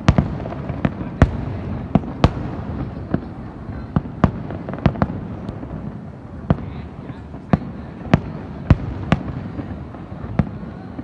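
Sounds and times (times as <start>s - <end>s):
rumble of distant explosions: 0.0s - 10.7s.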